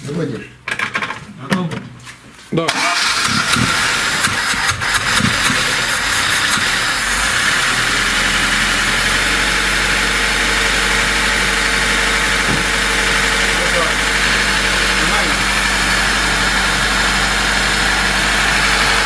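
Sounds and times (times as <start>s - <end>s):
car engine idling: 2.9s - 19.0s.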